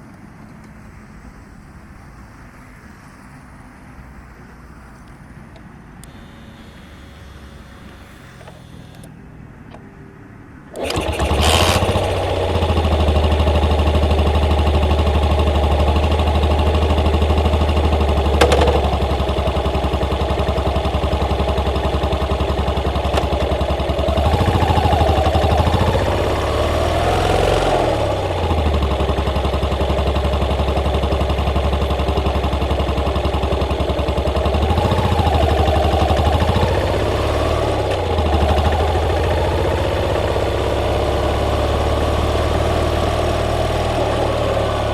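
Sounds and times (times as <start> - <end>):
motorcycle engine starting: 5.6 - 44.9
motorcycle engine idling: 6.0 - 44.9.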